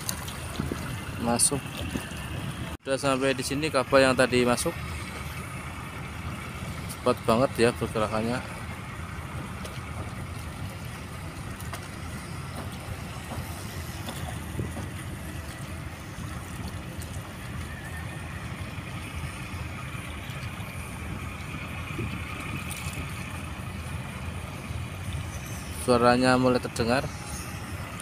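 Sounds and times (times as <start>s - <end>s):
boat engine rumbling: 0.0s - 28.0s.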